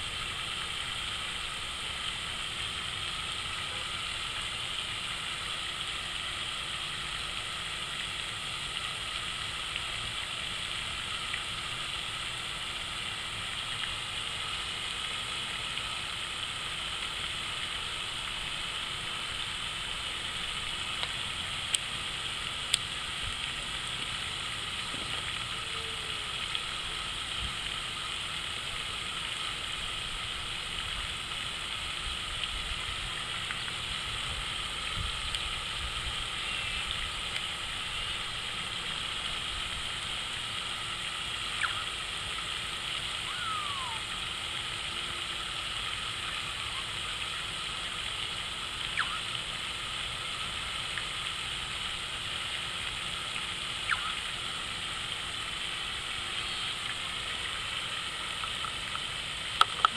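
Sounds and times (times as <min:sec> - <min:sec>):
water fountain splashing: 0:00.0 - 0:59.9.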